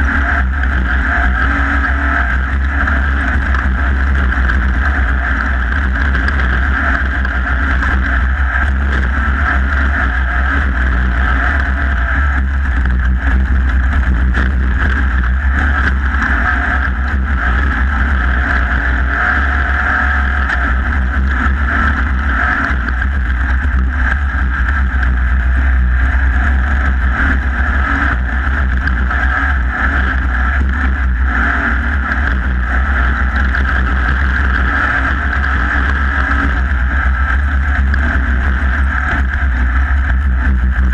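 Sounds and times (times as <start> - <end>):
driveline and tyre noise: 0.0 - 40.9
engine low rumble: 0.0 - 40.9
wind noise: 0.0 - 40.9.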